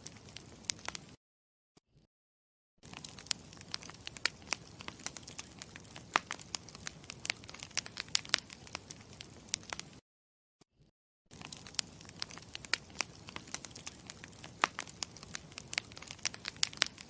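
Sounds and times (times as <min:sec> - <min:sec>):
campfire crackling and popping: 0:00.0 - 0:01.2, 0:02.8 - 0:10.0, 0:11.3 - 0:17.0.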